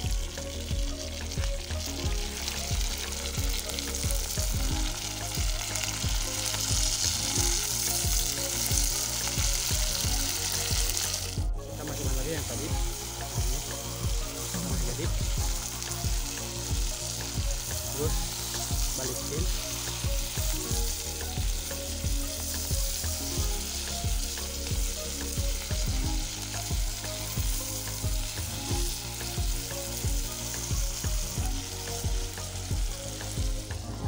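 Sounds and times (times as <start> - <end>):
vegetables sizzling in a metal pot: 0.0 - 34.0.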